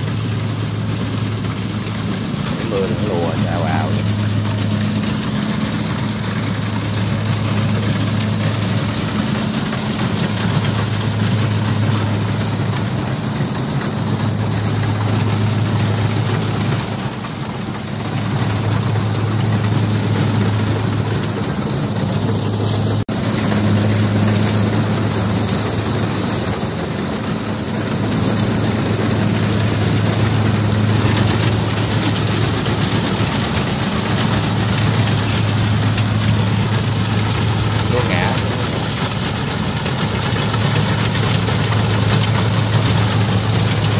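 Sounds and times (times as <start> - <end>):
combine harvester droning: 0.0 - 43.9.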